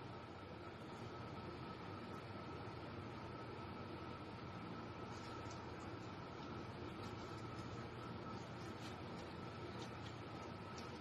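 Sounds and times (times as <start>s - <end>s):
background hiss and hum: 0.0s - 11.0s.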